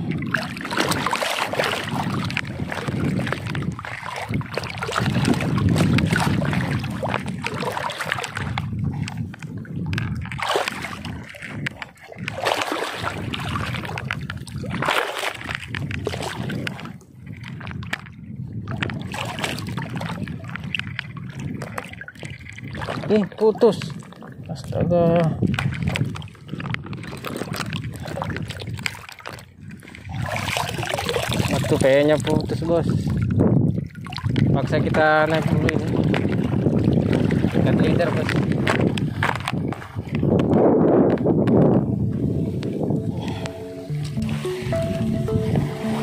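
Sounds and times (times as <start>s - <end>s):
water sloshing and splashing: 0.0s - 46.0s.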